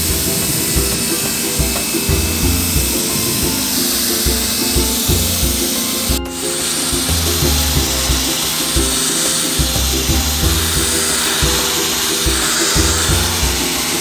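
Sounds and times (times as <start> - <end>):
background music with steady beat: 0.0 - 14.0
pressure washer spraying water: 0.0 - 14.0.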